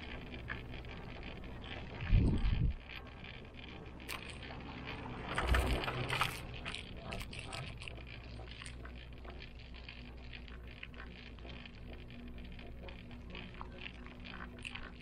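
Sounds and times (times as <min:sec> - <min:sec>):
cable car metallic rattles: 0:00.0 - 0:15.0
low rumbling clatter: 0:00.0 - 0:15.0.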